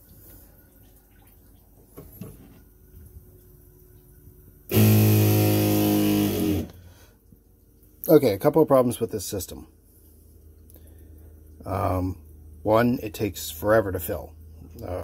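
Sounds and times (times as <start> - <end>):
electric water pump humming: 0.0 - 15.0.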